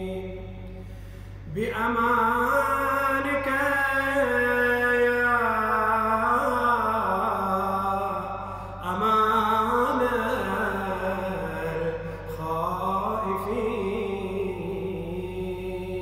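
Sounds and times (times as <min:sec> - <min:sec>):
man chanting melodically: 0:00.0 - 0:00.8, 0:01.4 - 0:16.0.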